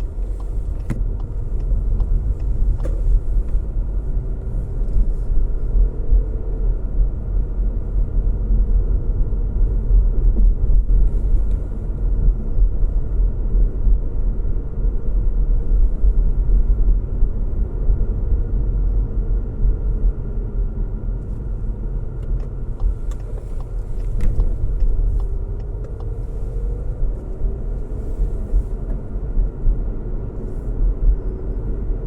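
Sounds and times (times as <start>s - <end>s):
road noise and engine hum: 0.0s - 32.0s.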